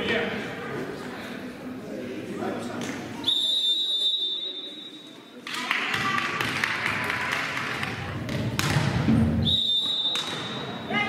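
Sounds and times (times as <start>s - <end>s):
sports hall noise: 0.0s - 11.0s.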